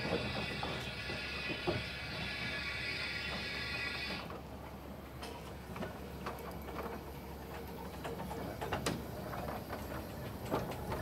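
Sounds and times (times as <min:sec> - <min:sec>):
steam locomotive clanking: 0:00.0 - 0:11.0.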